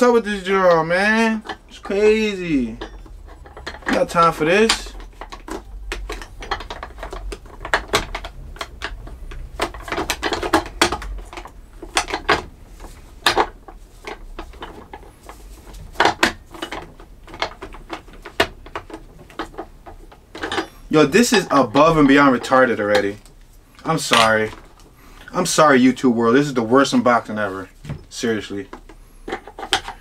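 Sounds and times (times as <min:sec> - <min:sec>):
plastic clicks and rattles: 0:00.7 - 0:25.3, 0:28.0 - 0:30.0.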